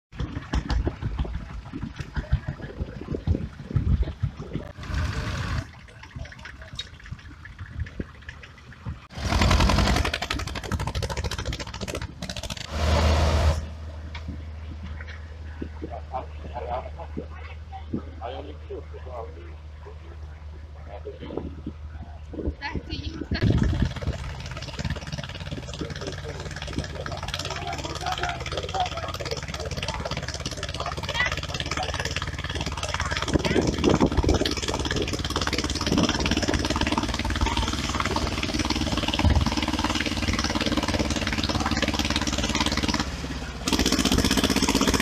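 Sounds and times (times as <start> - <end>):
diesel tractor engine: 0.1 - 45.0.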